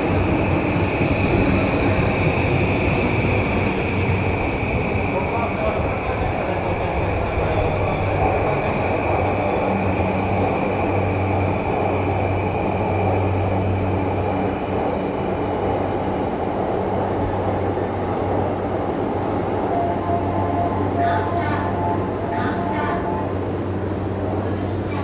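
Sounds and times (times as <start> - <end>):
electric train humming: 0.0 - 25.0.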